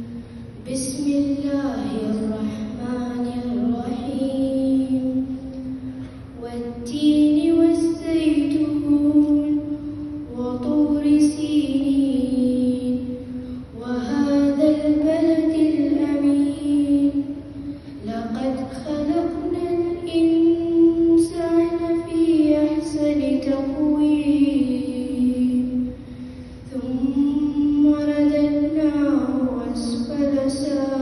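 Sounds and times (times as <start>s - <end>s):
boy chanting into a microphone: 0.0s - 31.0s.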